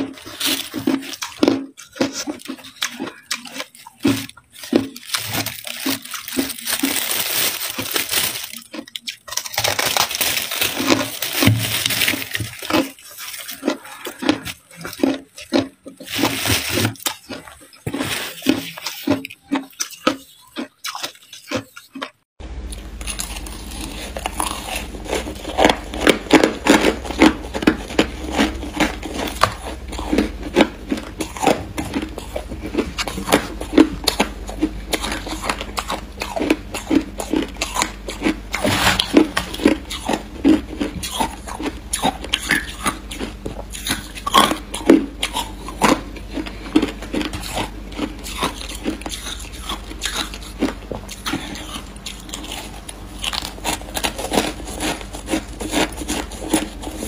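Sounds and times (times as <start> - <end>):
crushed ice crunched between teeth: 0.0 - 22.1, 22.7 - 57.0.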